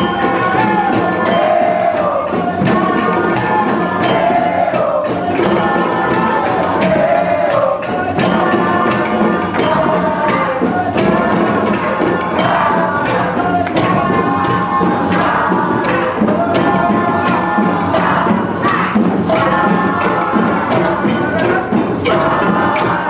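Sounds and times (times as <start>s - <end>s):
jingling percussion beat: 0.0s - 23.0s
voices singing: 0.0s - 23.0s.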